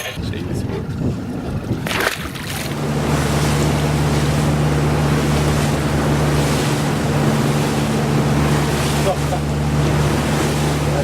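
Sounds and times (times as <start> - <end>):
wind noise: 0.0 - 10.9
boat engine hum: 0.0 - 11.0
water rushing: 0.0 - 11.0.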